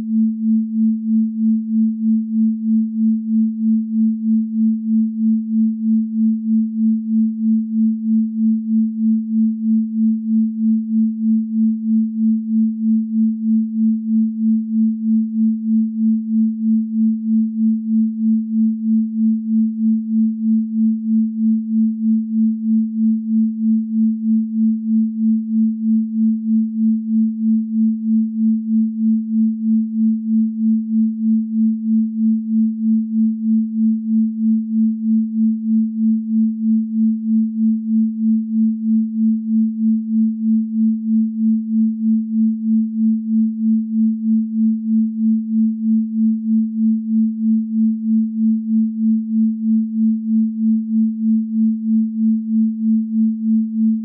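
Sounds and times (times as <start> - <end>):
pulsing sine tone: 0.0 - 54.0.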